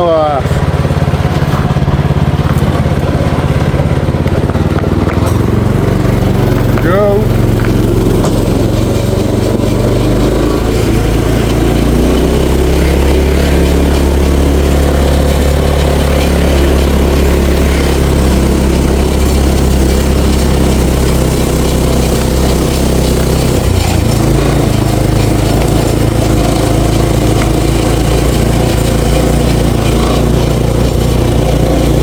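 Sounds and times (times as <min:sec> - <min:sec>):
golf cart engine running: 0:00.0 - 0:32.0.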